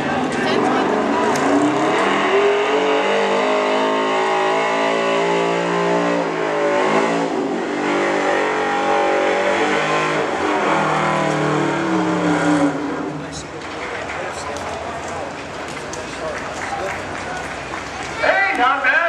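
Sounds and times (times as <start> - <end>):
truck engine at high revs: 0.0 - 18.8.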